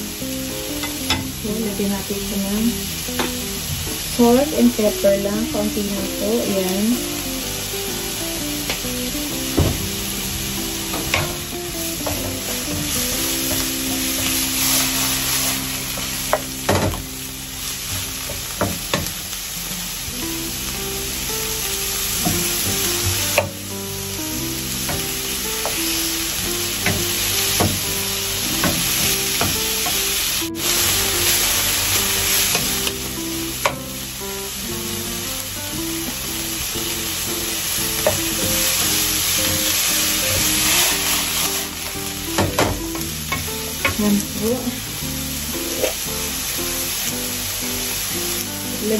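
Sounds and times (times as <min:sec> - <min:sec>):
broccoli sizzling in frying pan: 0:00.0 - 0:48.9
soft background music: 0:00.0 - 0:48.9.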